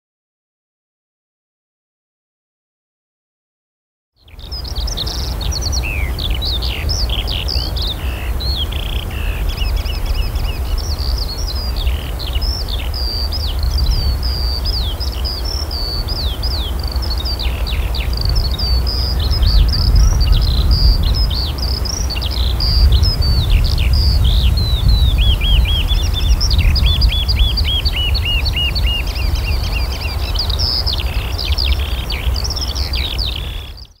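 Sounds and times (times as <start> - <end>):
songbirds chirping and trilling: 4.2 - 34.0
steady low rumble: 5.0 - 32.4.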